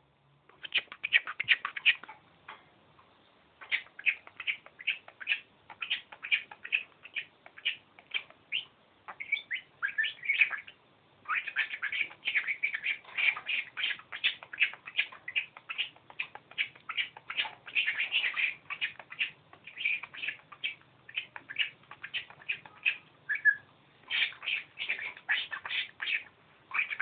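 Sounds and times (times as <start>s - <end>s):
budgerigar chattering: 0.6s - 2.1s, 3.6s - 27.0s.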